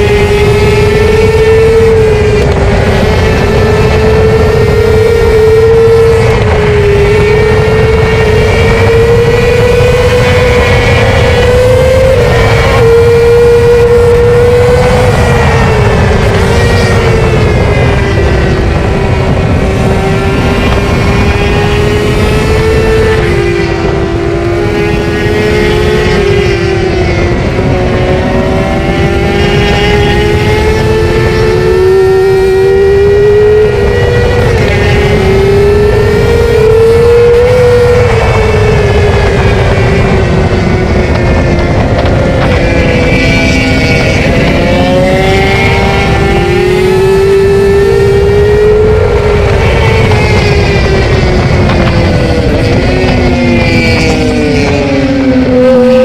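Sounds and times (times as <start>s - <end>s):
motorcycle engine at high revs: 0.0s - 56.0s
wind and road rush: 0.0s - 56.0s.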